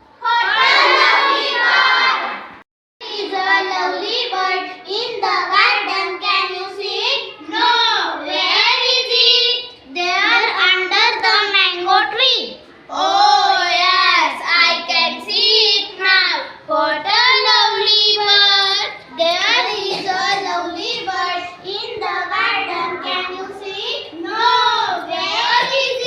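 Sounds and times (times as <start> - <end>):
children singing: 0.2 - 2.4, 3.0 - 9.8, 12.9 - 26.0.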